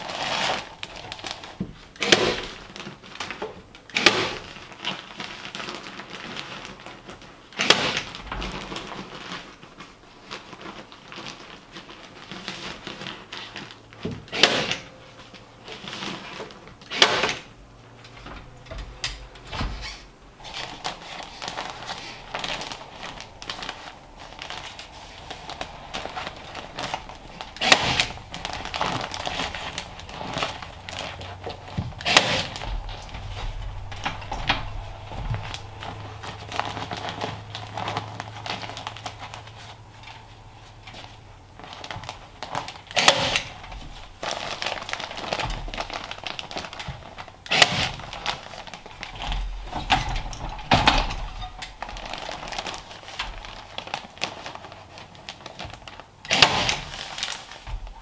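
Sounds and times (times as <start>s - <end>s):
insulation batts rustling: 0.0s - 58.0s.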